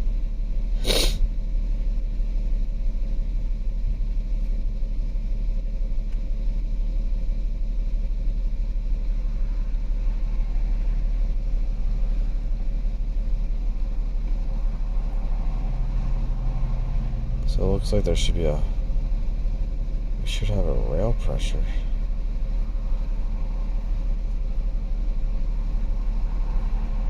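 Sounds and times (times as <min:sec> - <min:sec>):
rough idling engine misfiring: 0:00.0 - 0:27.0.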